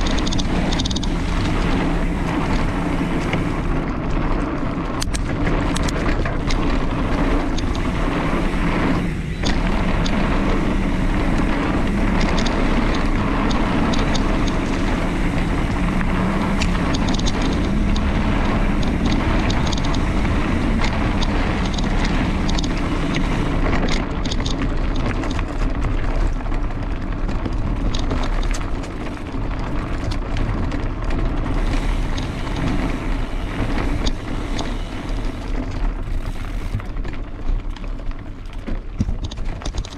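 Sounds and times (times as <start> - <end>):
small rattling clicks: 0.0 - 39.9
wind buffeting microphone: 0.0 - 39.9.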